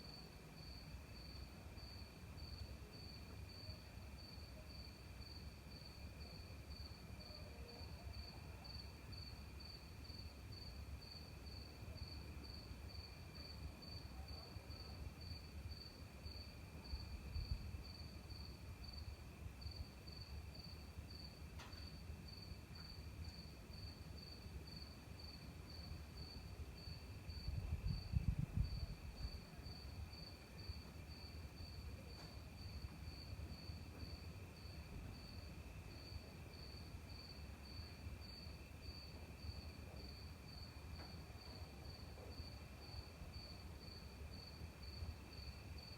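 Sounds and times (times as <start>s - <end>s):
cricket chirping: 0.0s - 45.9s.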